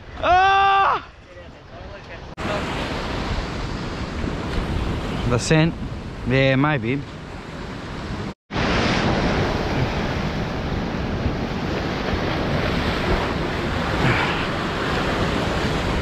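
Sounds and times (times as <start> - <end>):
ocean surf on rocks: 1.1 - 16.0
wind buffeting microphone: 1.5 - 16.0.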